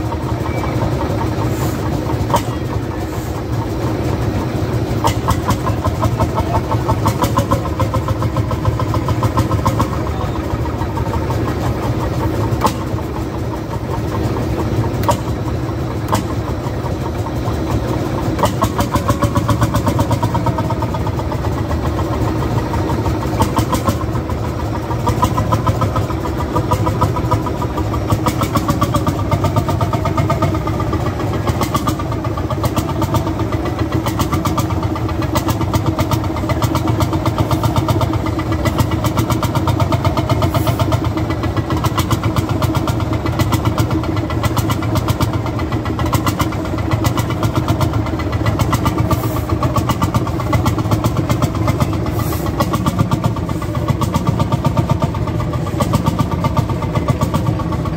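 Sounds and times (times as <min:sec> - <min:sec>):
tractor engine idling: 0:00.0 - 0:57.9.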